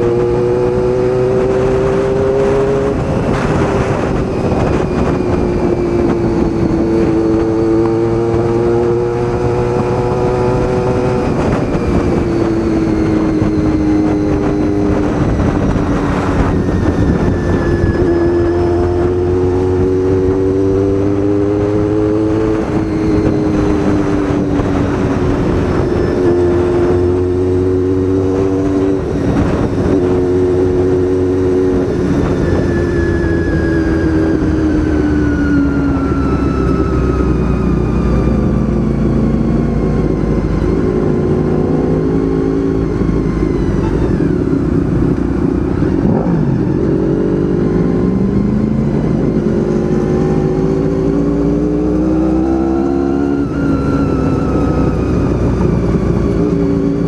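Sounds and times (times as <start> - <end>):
motorcycle engine shifting gears: 0.0 - 57.0
wind and road noise: 0.0 - 57.0.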